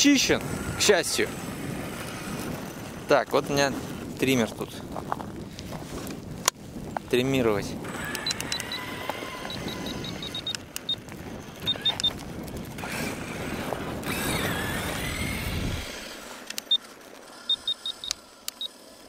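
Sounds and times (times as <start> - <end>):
electric motor whining: 0.0 - 6.2, 7.0 - 19.0.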